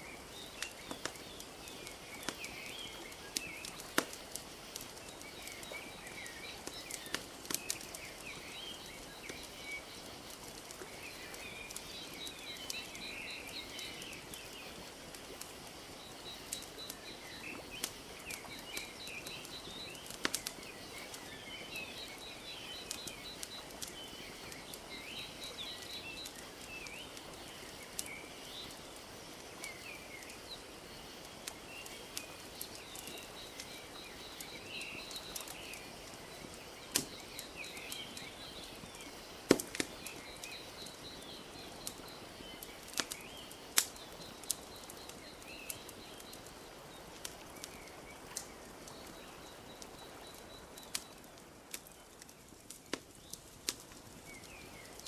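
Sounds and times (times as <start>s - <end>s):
small birds chirping: 0.0s - 55.0s
wood fire crackling and popping: 0.0s - 55.0s.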